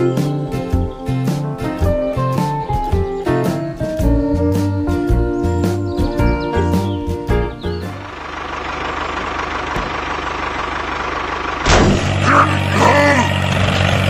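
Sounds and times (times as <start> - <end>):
deeper engine note: 0.0 - 14.0
tractor engine idling: 0.0 - 14.0.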